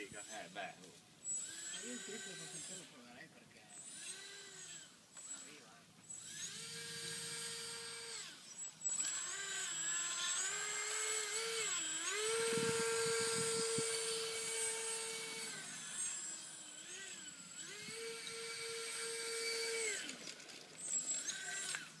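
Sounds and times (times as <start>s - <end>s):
electric fan whining: 0.0s - 22.0s.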